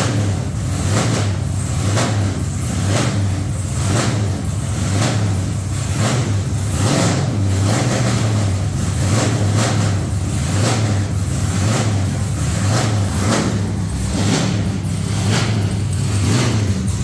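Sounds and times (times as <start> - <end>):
truck engine running loudly: 0.0 - 17.0.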